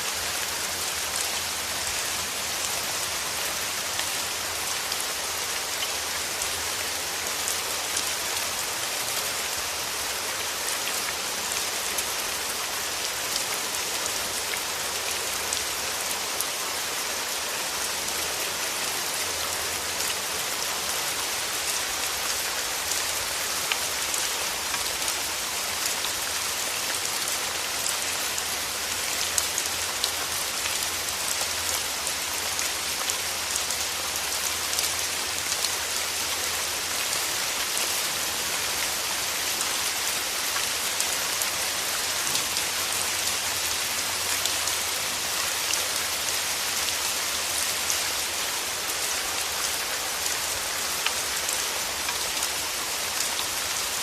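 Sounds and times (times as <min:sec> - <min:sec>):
rain falling through trees: 0:00.0 - 0:54.0.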